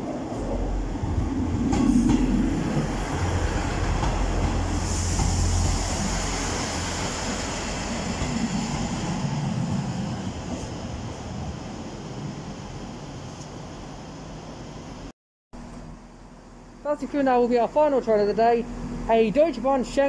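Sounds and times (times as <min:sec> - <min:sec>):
diesel train engines and wheels rumbling: 0:00.0 - 0:20.0.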